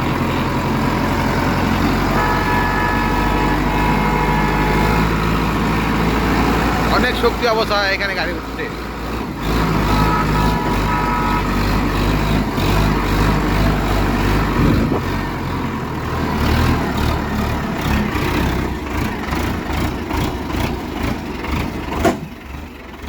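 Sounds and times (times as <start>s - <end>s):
tractor engine pulling hard: 0.0s - 23.0s.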